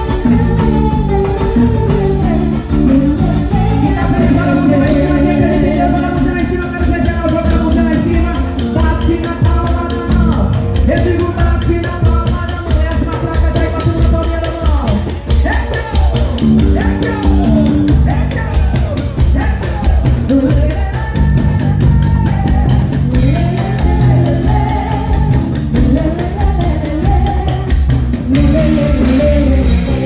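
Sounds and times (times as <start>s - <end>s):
drums: 0.0s - 30.0s
electric guitar: 0.0s - 30.0s
hand percussion: 0.0s - 30.0s
person singing: 0.0s - 30.0s.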